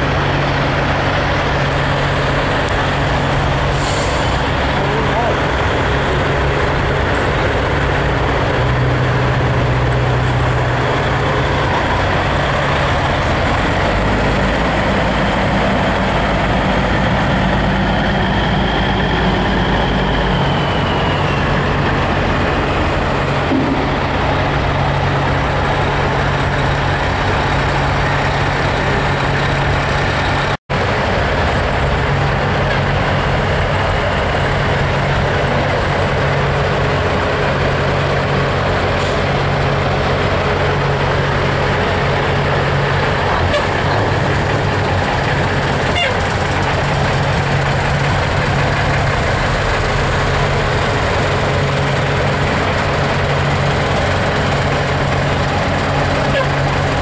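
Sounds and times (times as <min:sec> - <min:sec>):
heavy truck engines droning: 0:00.0 - 0:57.0.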